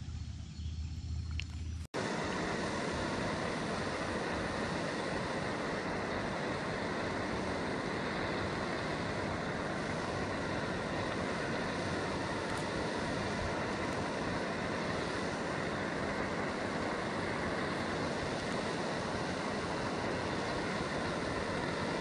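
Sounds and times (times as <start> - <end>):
gas stove hissing: 0.0 - 22.0.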